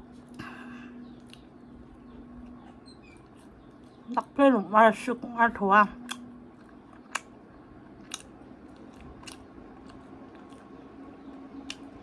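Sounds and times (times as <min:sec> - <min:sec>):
person chewing softly: 0:00.0 - 0:04.1, 0:06.0 - 0:12.0
faint steady hum: 0:00.0 - 0:12.0.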